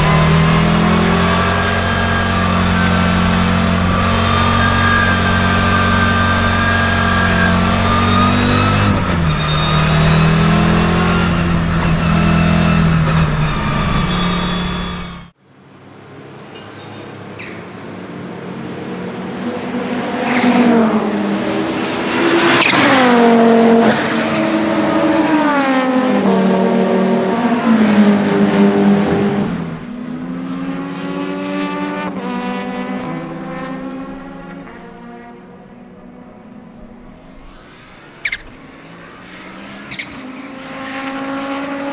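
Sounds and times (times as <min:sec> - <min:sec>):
car engine revving through gears: 0:00.0 - 0:15.4, 0:19.0 - 0:41.9.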